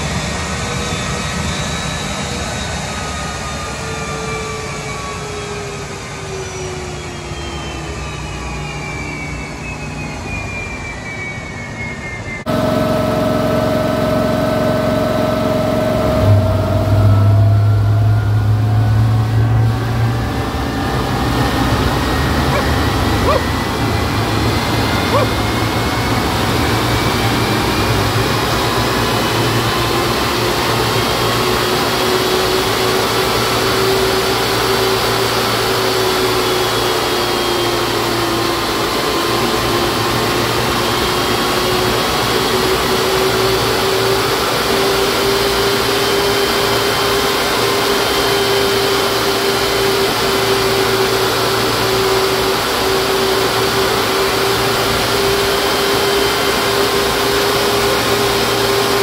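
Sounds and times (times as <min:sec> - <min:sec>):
turbojet engine roar with whine: 0:00.0 - 0:59.0.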